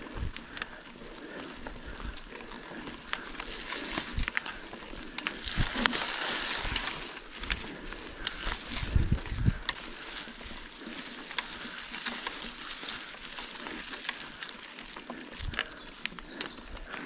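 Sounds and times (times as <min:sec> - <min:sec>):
bicycle tyre noise on dirt: 0:00.0 - 0:17.0.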